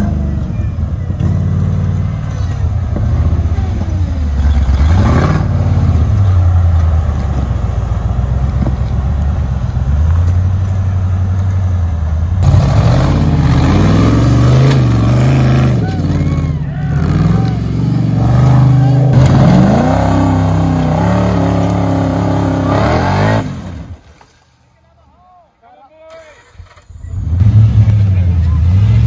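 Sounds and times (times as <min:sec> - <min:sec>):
off-road engines revving under load: 0:00.0 - 0:24.0, 0:26.5 - 0:29.0.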